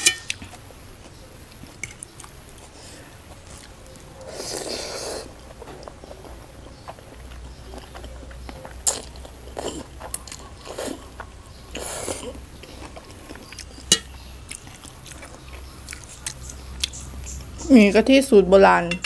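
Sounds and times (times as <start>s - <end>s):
chewing: 0.3s - 17.6s.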